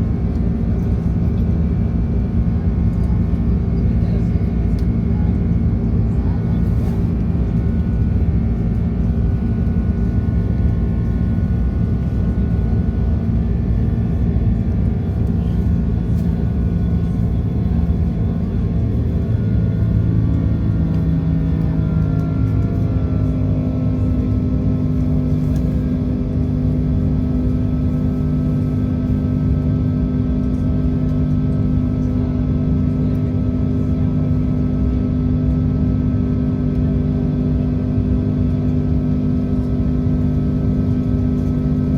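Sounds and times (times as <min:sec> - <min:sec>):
jet engines rumbling in cabin: 0:00.0 - 0:41.9.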